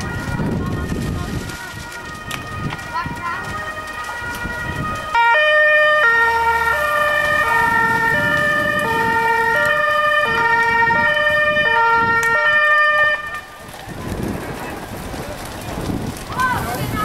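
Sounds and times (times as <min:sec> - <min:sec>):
fire engine two-tone siren: 0:00.0 - 0:13.8.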